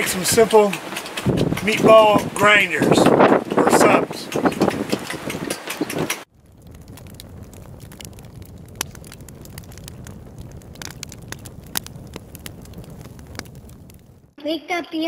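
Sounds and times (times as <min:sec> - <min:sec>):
charcoal crackling and popping: 0:00.0 - 0:14.4
wind rumble on microphone: 0:00.0 - 0:14.4.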